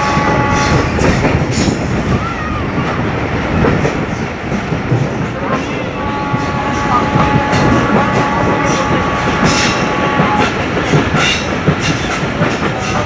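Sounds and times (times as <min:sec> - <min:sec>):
rail joint clicks: 0:00.0 - 0:13.0
train wheels rumbling: 0:00.0 - 0:13.0.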